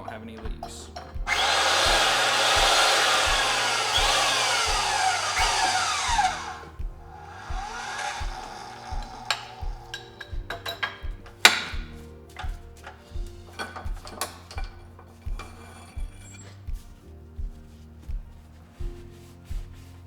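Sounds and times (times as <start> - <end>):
pipe-threading machine running: 0.0 - 17.0.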